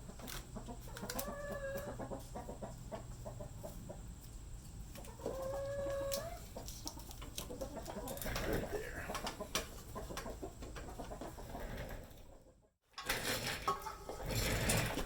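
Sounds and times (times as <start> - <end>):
drawn-out hen calls: 0.0 - 12.5, 13.3 - 15.0
chickens clucking: 0.0 - 15.0.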